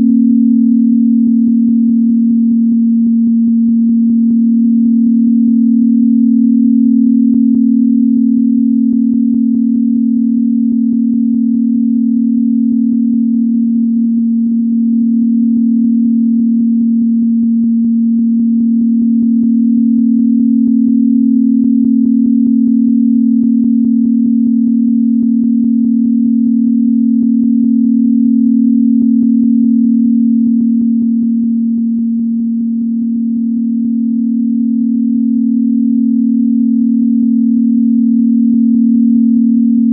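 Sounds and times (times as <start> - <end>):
low electronic sine tone: 0.0 - 39.9.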